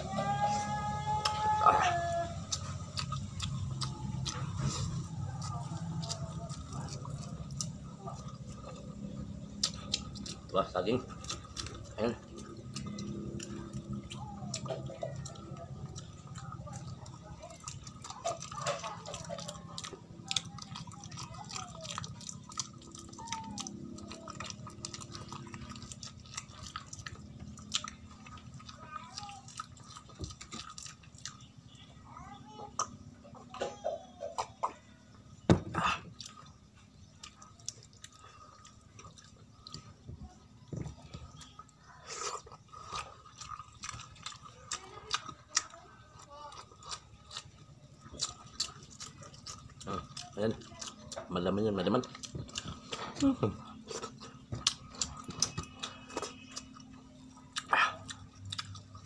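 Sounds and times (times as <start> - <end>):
wet mouth chewing sounds: 1.2 - 33.7, 34.4 - 59.0.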